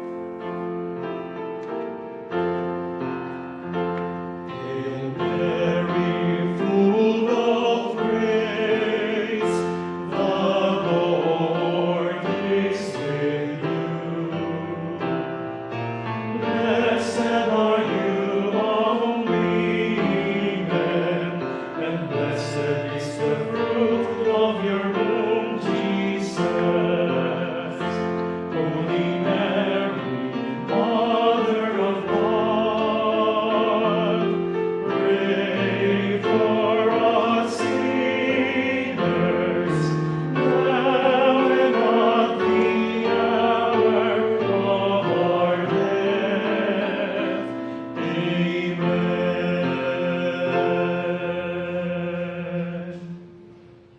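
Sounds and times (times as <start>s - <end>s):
operatic singing with vibrato: 3.6s - 53.9s.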